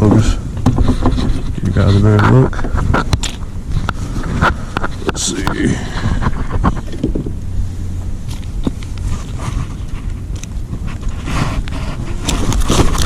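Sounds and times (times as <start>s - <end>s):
short rustle: 0.0s - 13.0s
wind rumbling on microphone: 0.0s - 13.0s
fishing gear clicks and knocks: 0.5s - 7.4s, 8.2s - 13.0s.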